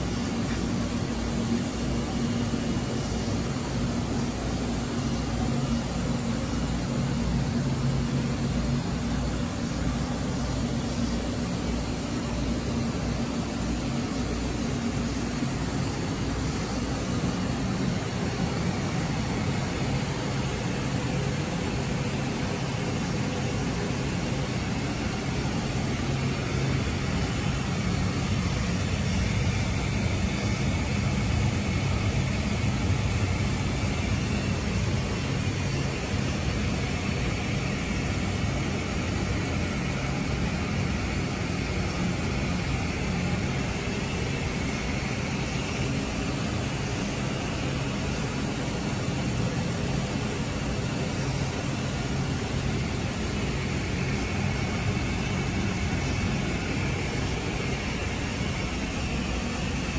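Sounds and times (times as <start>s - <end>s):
machinery hum and hiss: 0.0s - 59.9s.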